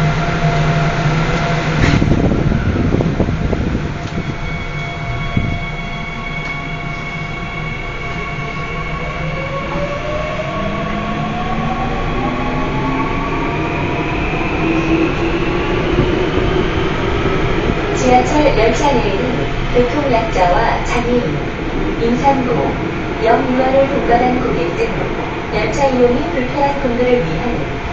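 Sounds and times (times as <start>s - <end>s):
train rumbling: 0.0s - 27.9s.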